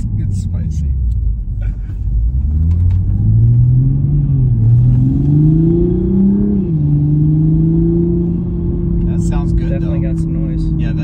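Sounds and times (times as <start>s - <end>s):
turbocharged car engine accelerating: 2.2s - 11.0s.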